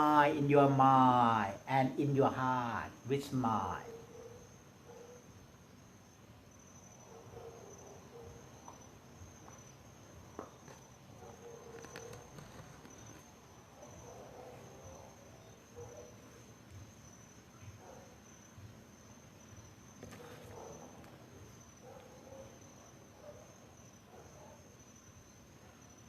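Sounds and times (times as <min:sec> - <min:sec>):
high-pitched insect trill: 0:00.0 - 0:26.0.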